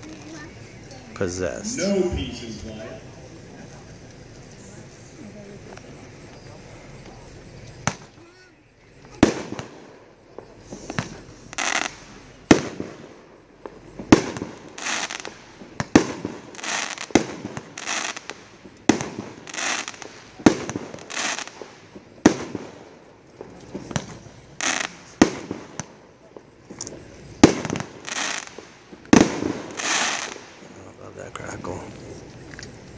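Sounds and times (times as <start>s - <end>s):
firework bangs: 0.0s - 8.4s, 9.0s - 32.8s
firework crackling: 0.0s - 32.9s.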